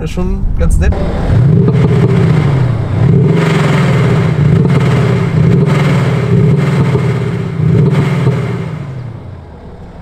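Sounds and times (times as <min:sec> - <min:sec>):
exhaust pops: 0:00.5 - 0:09.3
synthetic exhaust note: 0:00.9 - 0:09.4.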